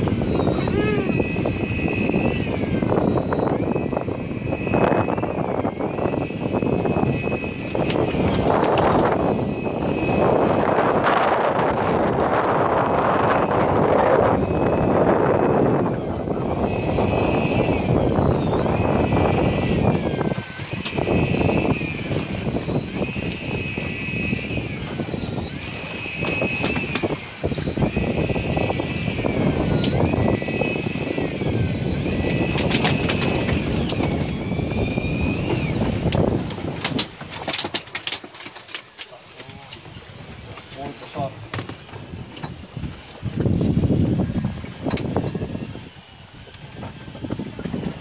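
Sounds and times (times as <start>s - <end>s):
electric fishing reel motor whining: 0.0s - 38.8s, 41.5s - 48.0s
boat noise: 0.0s - 48.0s.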